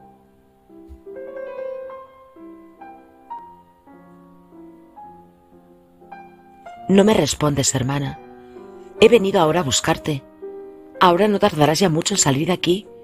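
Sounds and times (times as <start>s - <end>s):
soft solo piano music: 0.0s - 13.0s.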